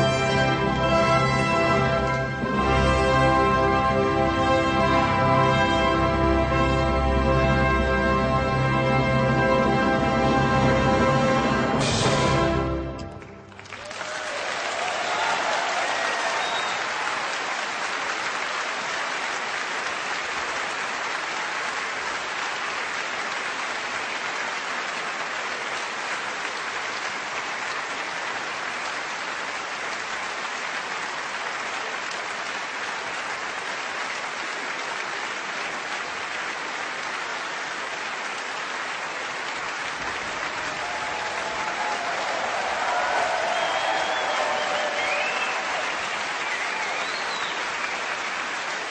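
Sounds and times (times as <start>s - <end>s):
audience applauding: 0.0s - 48.9s.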